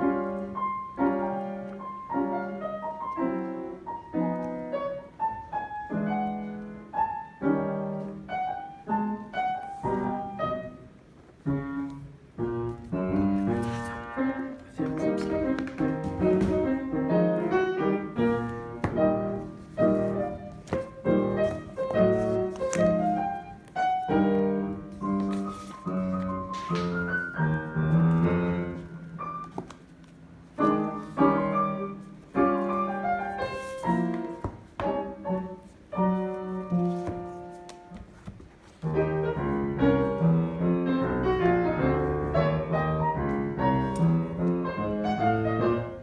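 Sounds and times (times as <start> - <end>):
piano piece: 0.0 - 46.0.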